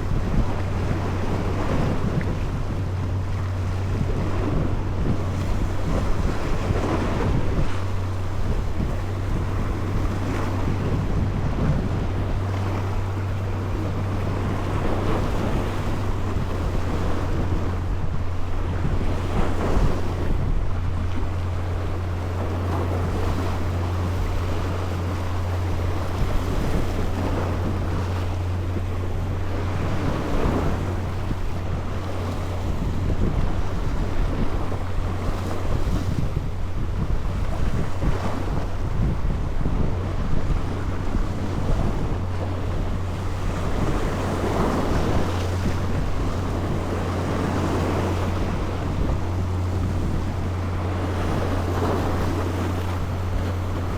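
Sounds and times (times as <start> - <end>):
steady low hum: 0.0 - 53.9
water washing around boat: 0.0 - 53.9
wind buffeting microphone: 0.0 - 53.9.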